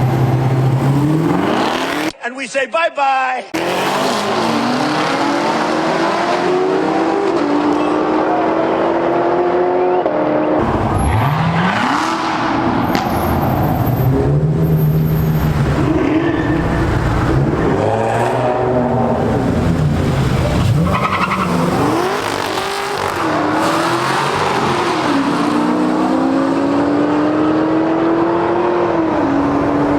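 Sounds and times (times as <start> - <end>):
car engines revving: 0.0 - 2.2, 3.6 - 29.9
deeper engine revving: 3.6 - 29.9.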